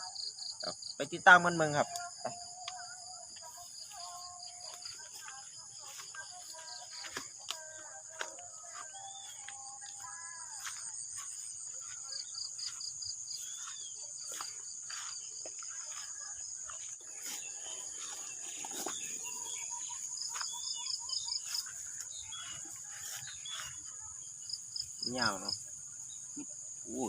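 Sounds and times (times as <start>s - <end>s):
insects trilling: 0.0s - 27.0s
bird calls: 2.0s - 24.6s.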